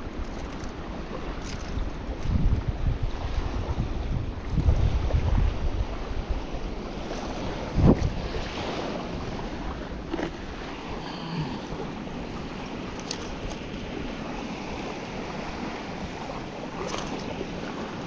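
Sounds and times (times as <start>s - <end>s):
sea waves washing on shore: 0.0s - 18.0s
wind on microphone: 0.0s - 18.0s.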